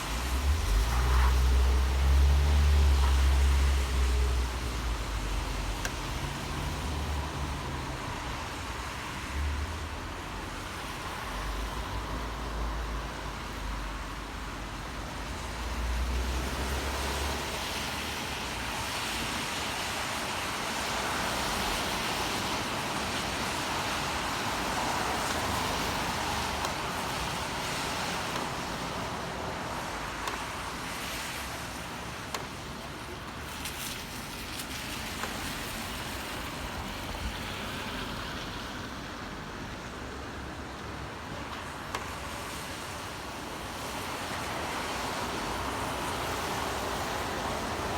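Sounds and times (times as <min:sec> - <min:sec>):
tyres hissing on wet street: 0:00.0 - 0:47.9.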